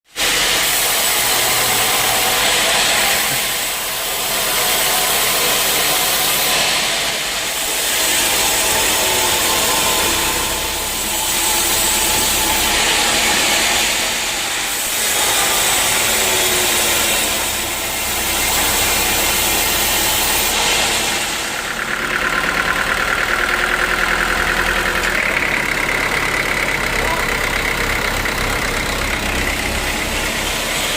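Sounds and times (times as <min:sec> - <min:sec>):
sawmill engine: 0:00.1 - 0:30.9
high steady whine: 0:00.2 - 0:30.9
saw cutting wood: 0:00.2 - 0:30.9.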